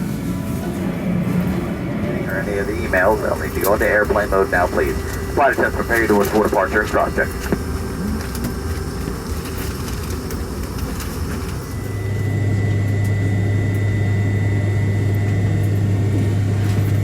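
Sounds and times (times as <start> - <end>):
airliner cabin noise: 0.0 - 17.0
loud low hum: 0.0 - 17.0
faint high whine: 2.1 - 17.0.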